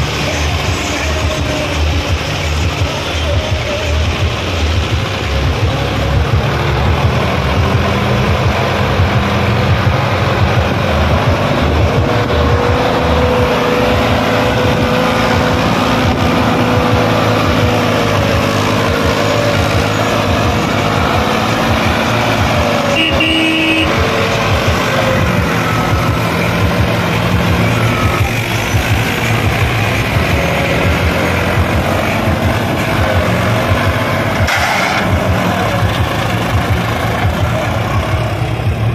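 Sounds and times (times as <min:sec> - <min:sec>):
tractor diesel engine pulling hard: 0:00.0 - 0:38.9.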